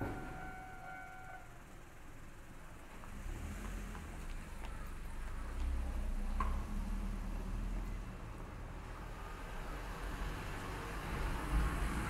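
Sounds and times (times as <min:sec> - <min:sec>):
truck engine rumble: 0:00.0 - 0:12.0.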